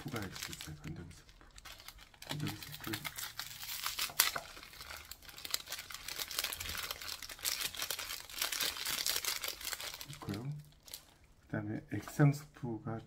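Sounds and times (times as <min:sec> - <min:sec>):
sachet tearing and crinkling: 0:00.0 - 0:11.2.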